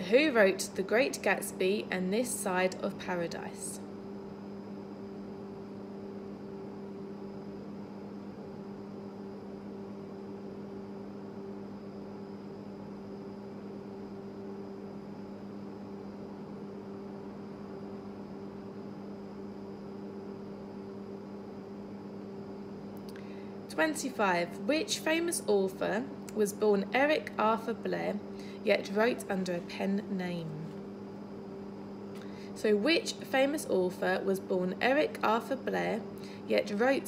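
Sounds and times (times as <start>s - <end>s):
faint high whine: 0.0s - 37.0s
room hum with low tones: 0.0s - 37.0s.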